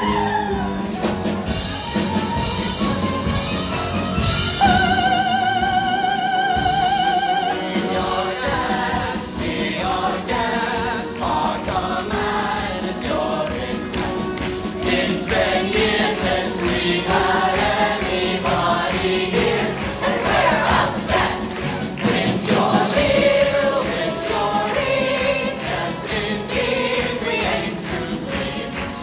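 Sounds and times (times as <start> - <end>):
orchestral backing music: 0.0 - 29.0
group of singers performing: 4.6 - 29.0.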